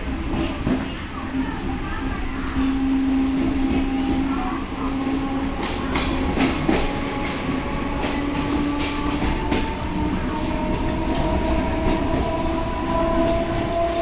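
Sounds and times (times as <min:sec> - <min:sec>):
train rumbling: 0:00.0 - 0:14.0
train whine: 0:00.0 - 0:14.0.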